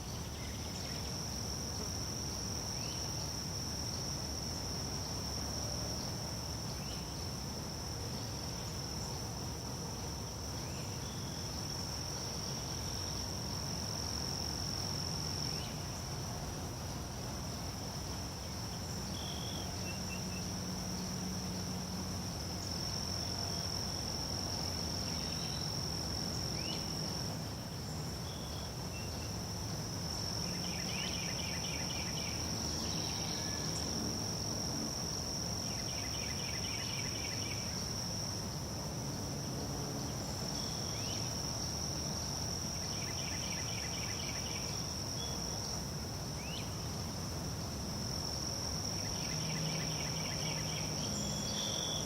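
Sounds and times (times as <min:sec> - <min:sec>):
chorus of insects: 0:00.0 - 0:52.0.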